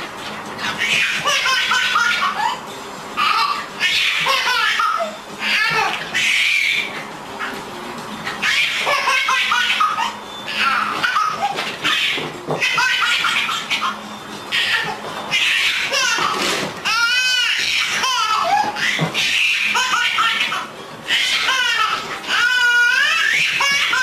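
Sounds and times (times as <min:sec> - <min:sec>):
baby laughing: 0:00.6 - 0:07.6, 0:08.3 - 0:24.0.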